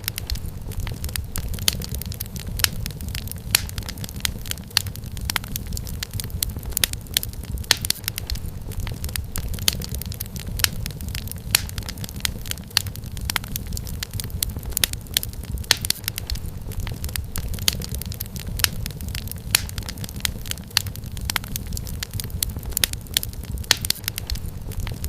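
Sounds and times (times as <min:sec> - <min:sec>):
low rumble of burning logs: 0:00.0 - 0:25.0
wood fire crackling: 0:00.0 - 0:25.0.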